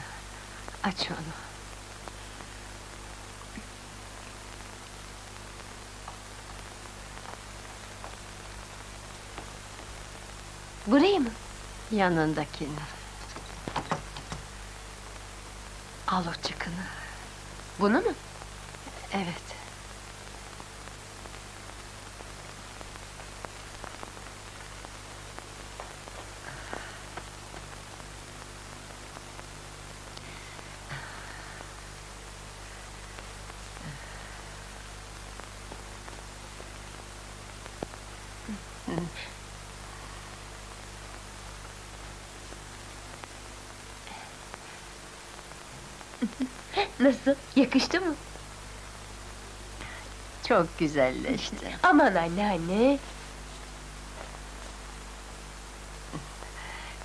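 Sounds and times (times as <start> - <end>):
soundtrack hiss and hum: 0.0 - 57.0.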